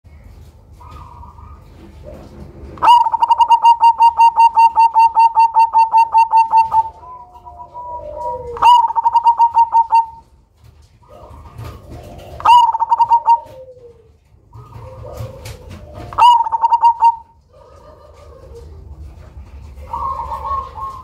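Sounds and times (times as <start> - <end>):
dove calling in staccato notes: 0.6 - 21.0.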